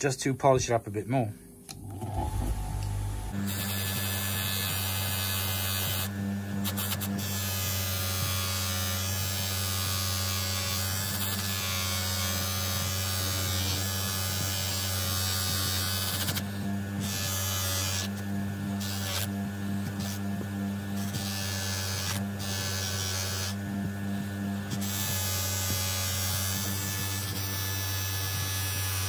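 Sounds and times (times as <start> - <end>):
bench polisher motor hum: 1.7 - 29.0.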